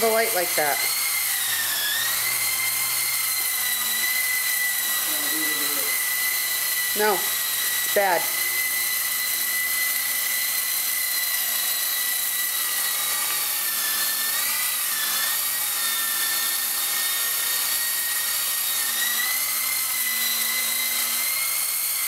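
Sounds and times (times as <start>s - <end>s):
rc helicopter rotor whine: 0.0s - 22.0s.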